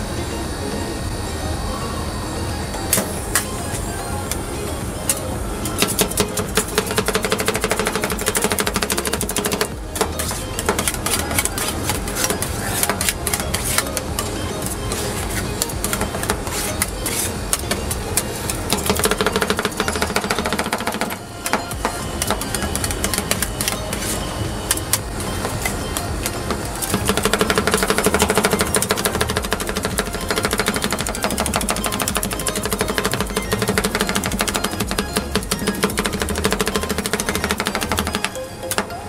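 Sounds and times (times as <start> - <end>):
metal spatulas chopping on steel: 5.0 - 38.1.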